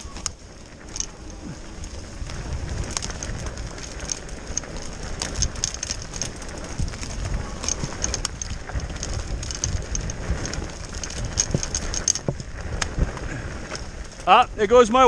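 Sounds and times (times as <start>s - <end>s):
bike clicks and rattles: 0.0s - 15.0s
bike tyres rumbling on dirt: 0.0s - 15.0s
wind on microphone: 0.0s - 15.0s.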